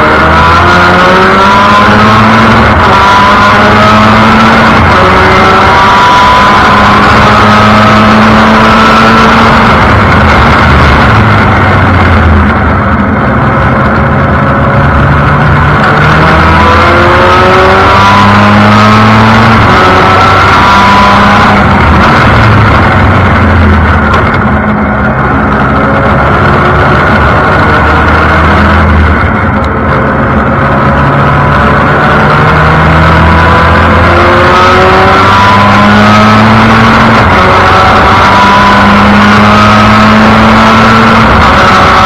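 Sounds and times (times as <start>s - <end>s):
race car engine accelerating: 0.0s - 42.0s
rushing wind noise: 0.0s - 42.0s.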